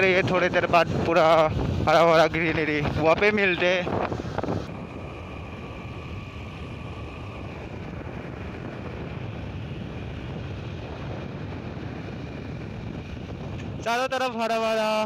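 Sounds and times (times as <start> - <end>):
motorcycle engine rumble: 0.0 - 13.9.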